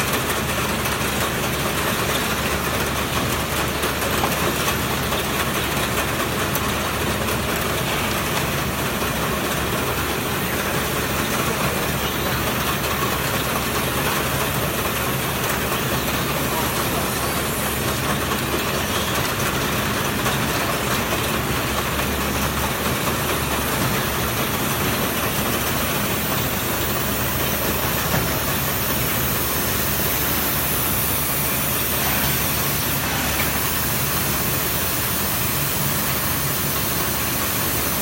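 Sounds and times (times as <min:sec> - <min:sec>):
conveyor belts running: 0:00.0 - 0:38.0.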